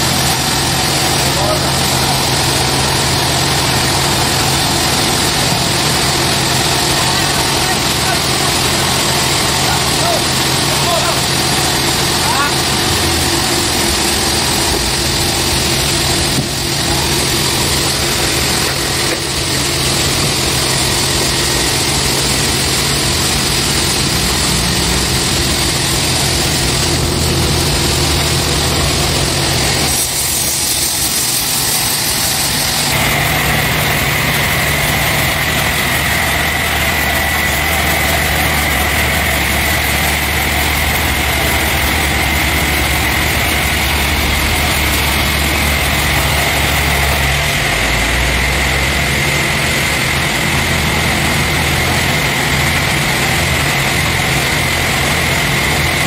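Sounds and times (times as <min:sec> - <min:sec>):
engine running steadily: 0:00.0 - 0:56.0
steady high whine: 0:00.0 - 0:56.0.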